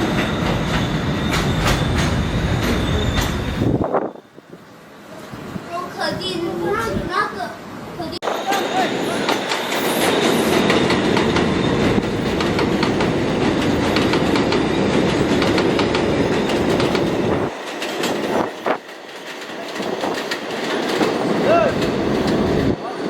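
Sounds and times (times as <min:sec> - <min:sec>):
subway train wheels clicking: 0:00.0 - 0:23.0.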